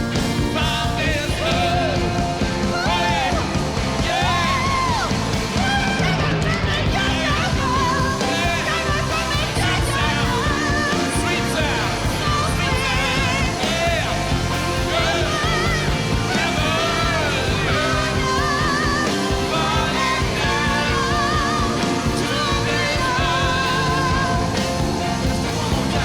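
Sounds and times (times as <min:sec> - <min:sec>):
live rock band: 0:00.0 - 0:26.0
person singing with vibrato: 0:00.0 - 0:26.0.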